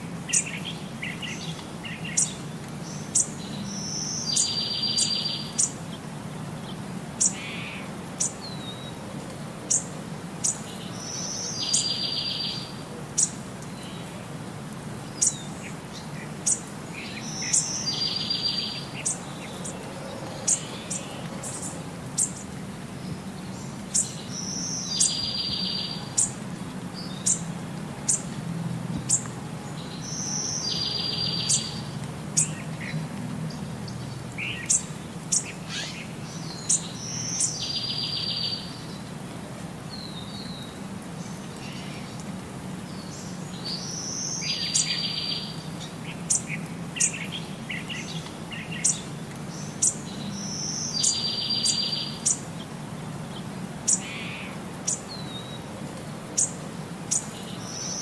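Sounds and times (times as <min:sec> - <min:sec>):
small birds chirping: 0:00.0 - 0:39.2, 0:39.8 - 0:58.0.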